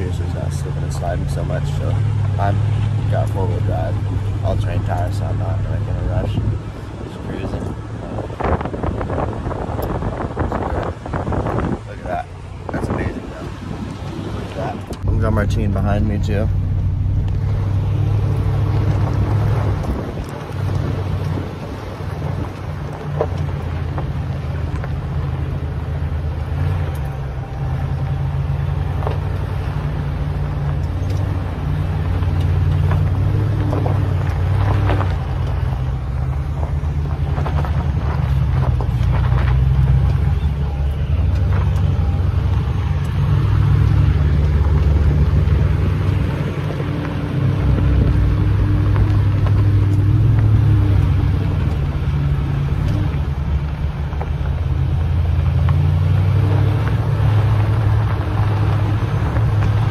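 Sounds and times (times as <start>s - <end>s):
pickup engine and road rumble: 0.0s - 59.9s.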